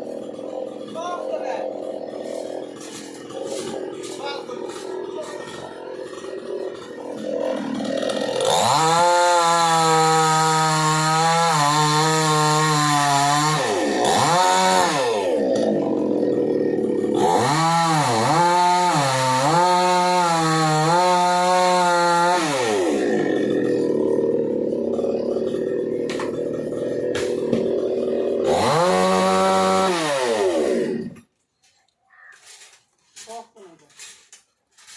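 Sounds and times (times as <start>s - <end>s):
chainsaw cutting at high revs: 0.0s - 31.3s.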